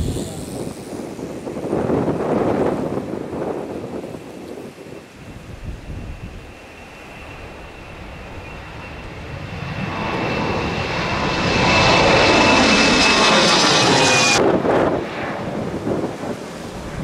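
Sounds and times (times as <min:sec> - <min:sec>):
high-pitched fan whine: 0:00.0 - 0:14.4
jet engines at takeoff: 0:00.0 - 0:17.0.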